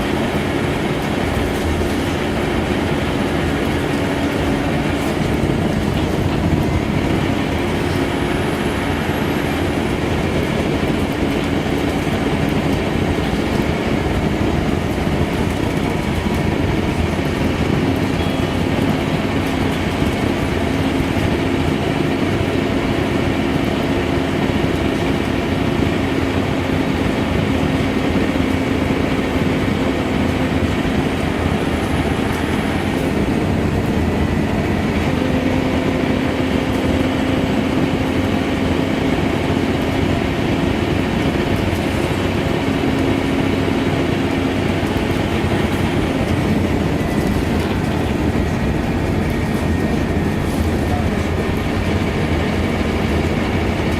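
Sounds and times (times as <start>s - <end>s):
diesel bus engine drone: 0.0s - 53.9s
road and body noise: 0.0s - 53.9s.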